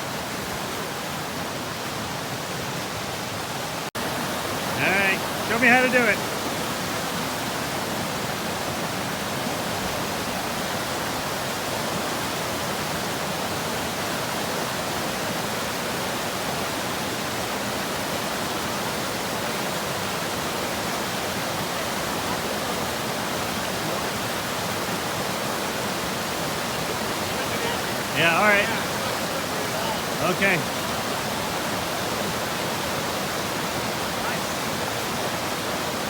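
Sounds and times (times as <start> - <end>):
stream water rushing: 0.0 - 36.0.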